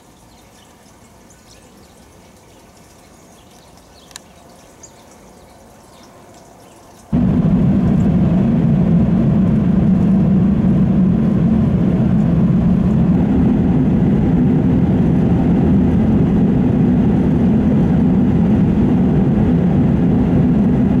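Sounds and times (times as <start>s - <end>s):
car tyre and engine rumble: 0.0s - 21.0s.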